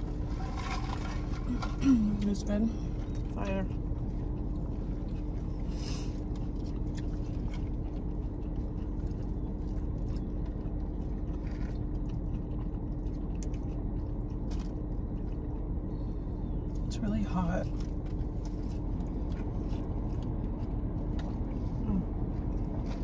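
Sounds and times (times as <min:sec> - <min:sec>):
chewing and crunching food: 0:00.0 - 0:23.0.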